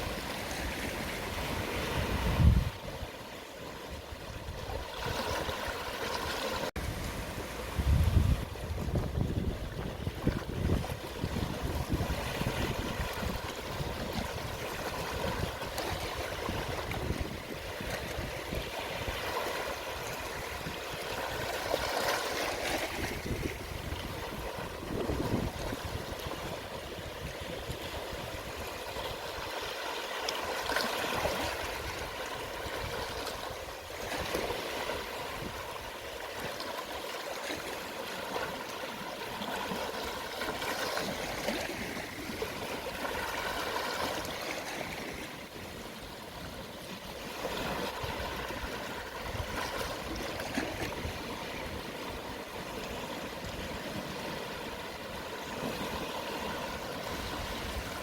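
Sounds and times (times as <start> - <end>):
gentle sea waves washing: 0.0 - 58.0.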